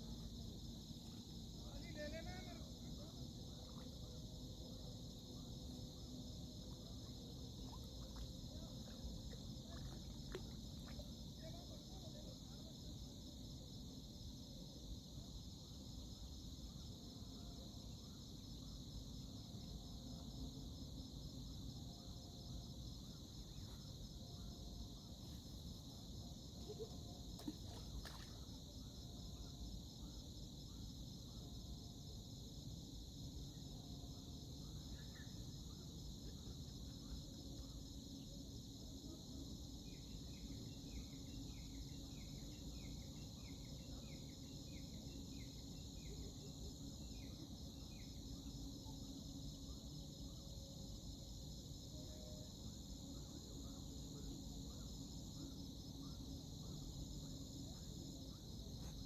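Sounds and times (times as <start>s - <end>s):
crickets trilling: 0.0s - 59.0s
low background hiss: 0.0s - 59.0s.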